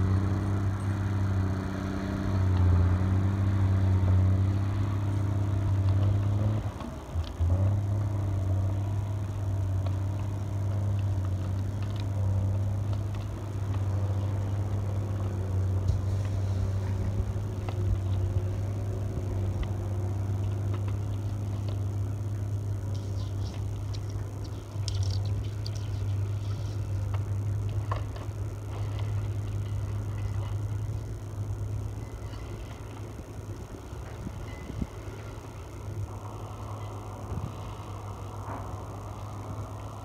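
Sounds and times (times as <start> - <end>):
diesel engine droning: 0.0 - 40.0.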